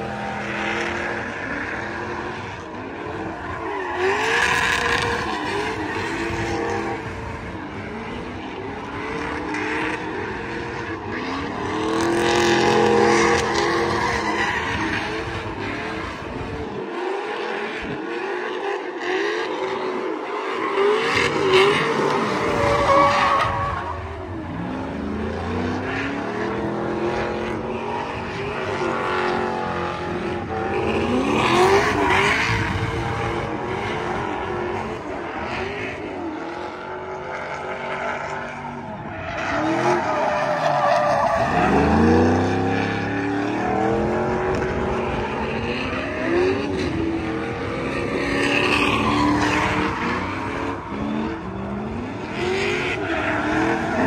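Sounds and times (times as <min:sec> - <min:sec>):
car engine revving: 0:00.0 - 0:54.0
tire squeal and skidding: 0:00.0 - 0:54.0.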